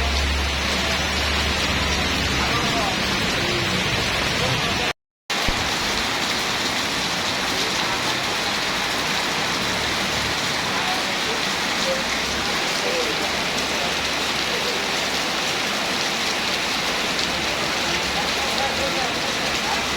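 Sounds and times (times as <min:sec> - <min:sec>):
heavy rain pouring: 0:00.0 - 0:19.9.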